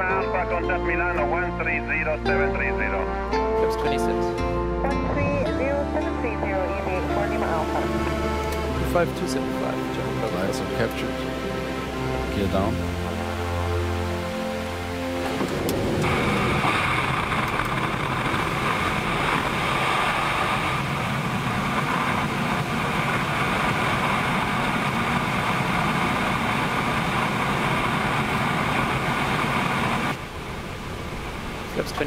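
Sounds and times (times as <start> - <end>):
cockpit hum: 4.2 - 31.1
airflow and jet engine noise: 4.8 - 32.0.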